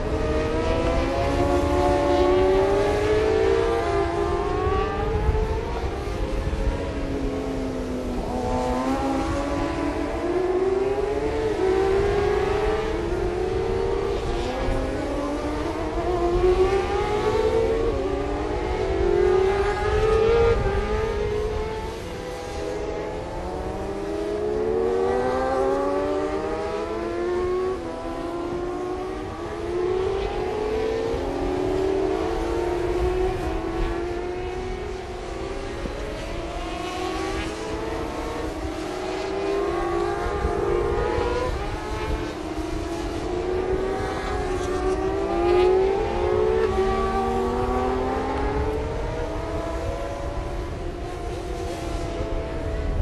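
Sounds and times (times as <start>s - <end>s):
motorcycles accelerating hard: 0.0s - 53.0s.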